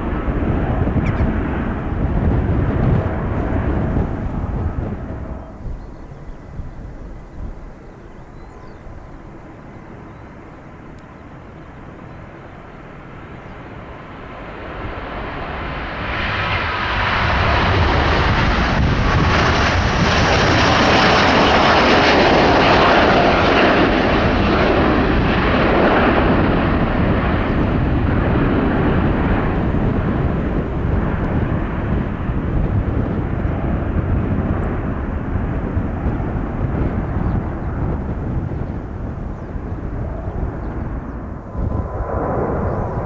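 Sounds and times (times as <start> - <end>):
jet engine roar: 0.0 - 43.0.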